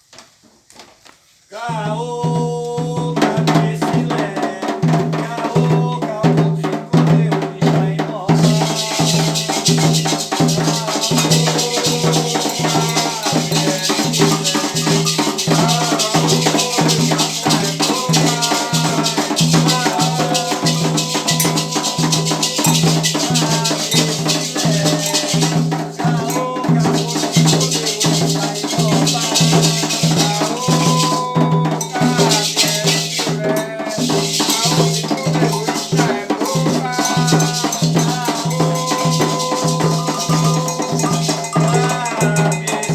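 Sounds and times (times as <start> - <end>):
people singing: 1.5 - 42.9
drums: 1.6 - 42.9
shaken rattles: 8.3 - 42.9.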